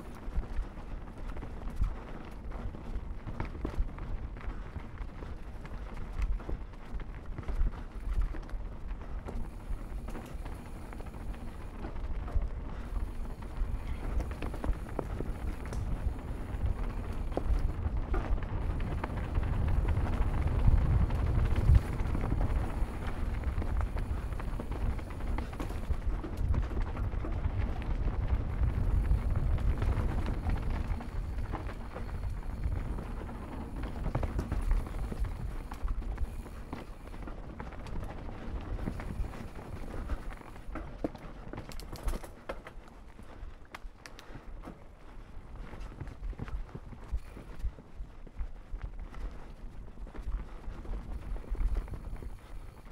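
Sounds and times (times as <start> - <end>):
bike rattling over bumps: 0.0 - 52.9
bike tyres on dirt trail: 0.0 - 52.9.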